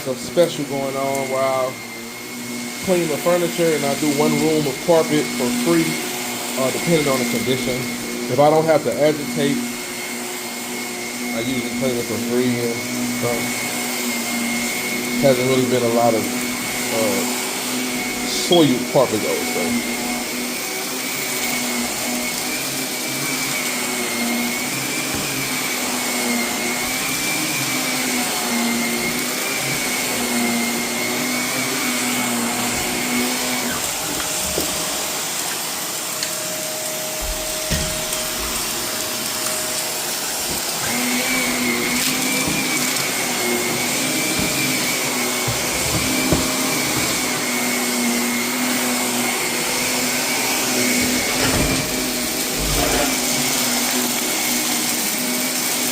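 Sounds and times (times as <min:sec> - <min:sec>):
vacuum cleaner motor whine: 0:00.0 - 0:55.9.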